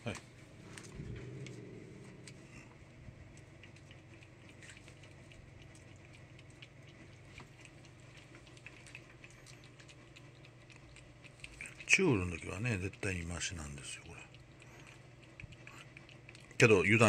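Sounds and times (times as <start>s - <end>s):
low steady hum: 0.0s - 17.0s
cat licking: 0.6s - 17.0s.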